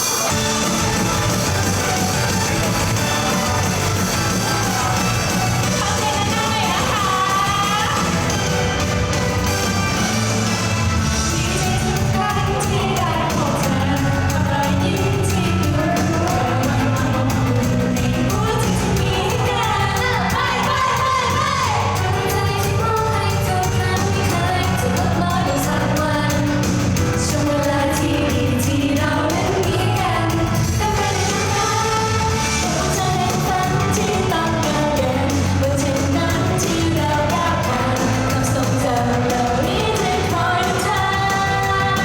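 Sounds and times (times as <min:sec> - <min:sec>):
pop backing track with beat: 0:00.0 - 0:42.0
woman singing: 0:00.3 - 0:08.5, 0:11.1 - 0:42.0.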